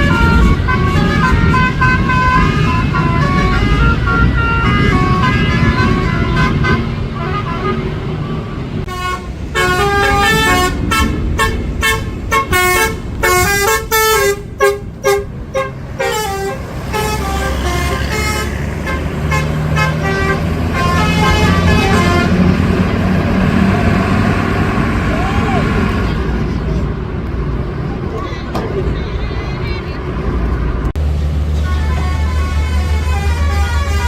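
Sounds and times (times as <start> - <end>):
bus multi-tone horn melody: 0.0 - 26.2, 31.4 - 34.0
bus engine rumbling: 0.0 - 34.0.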